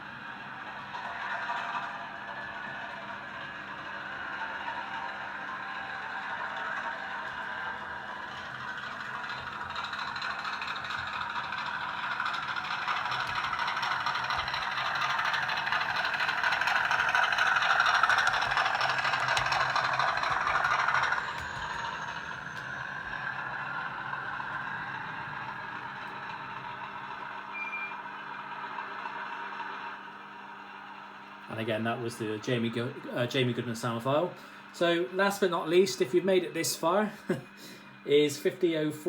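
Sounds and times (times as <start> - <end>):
diesel locomotive engine running: 0.0 - 39.0.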